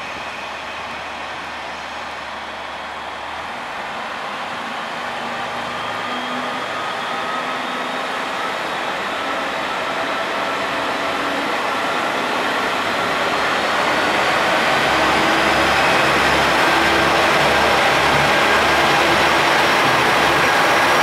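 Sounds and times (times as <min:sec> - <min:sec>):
diesel railcar engine running: 0:00.0 - 0:21.0.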